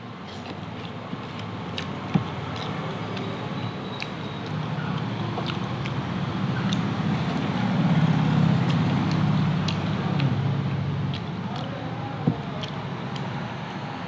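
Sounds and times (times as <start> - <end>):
chewing clicks: 0.3 - 7.6, 8.6 - 13.9.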